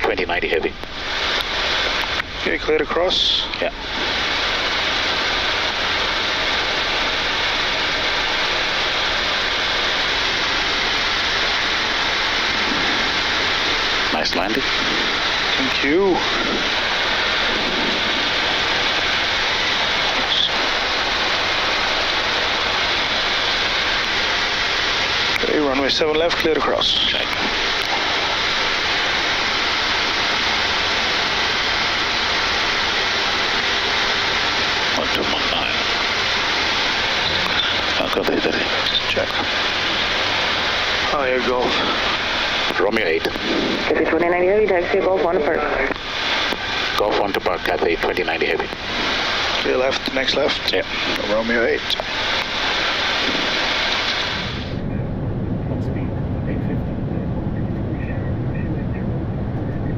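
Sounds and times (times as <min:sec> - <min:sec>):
cockpit hiss and rumble: 0:00.0 - 0:59.9.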